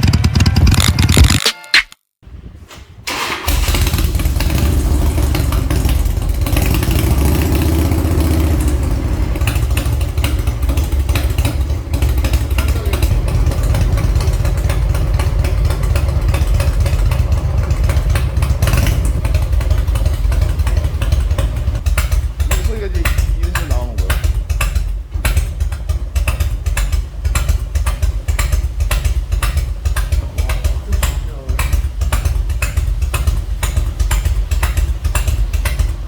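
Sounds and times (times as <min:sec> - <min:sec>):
motorcycle engine idling: 0:03.2 - 0:36.0.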